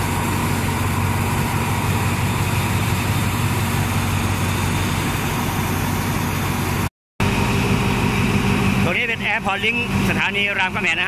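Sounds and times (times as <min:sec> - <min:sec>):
train diesel engine humming: 0:00.0 - 0:11.0.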